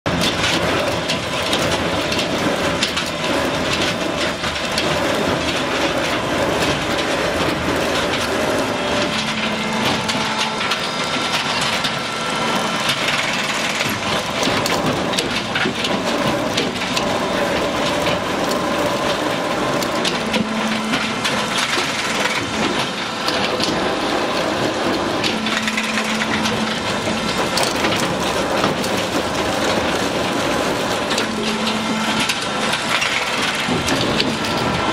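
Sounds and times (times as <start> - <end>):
debarking machine crackling wood: 0.1 - 34.9.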